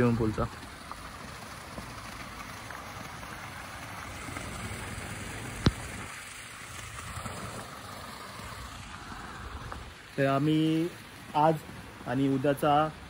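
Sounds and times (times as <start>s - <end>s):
water splashing into a pool: 0.0s - 13.0s.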